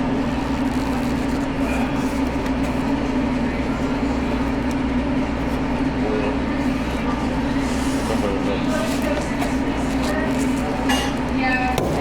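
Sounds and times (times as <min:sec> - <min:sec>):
mechanical drone with low hum: 0:00.0 - 0:12.0.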